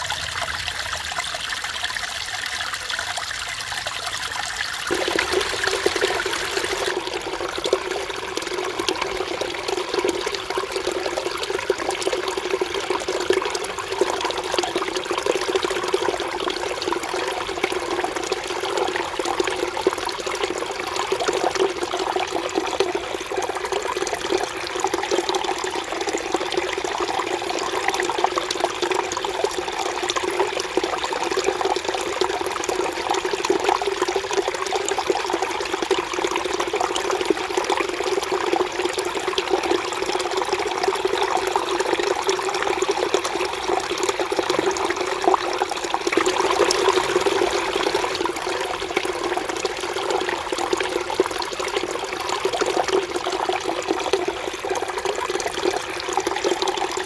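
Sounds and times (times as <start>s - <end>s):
stream water splashing over rocks: 0.0s - 57.0s.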